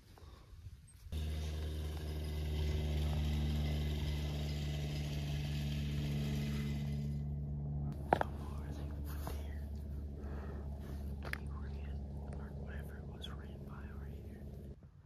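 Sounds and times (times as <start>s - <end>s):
engine running steadily: 1.1s - 14.8s.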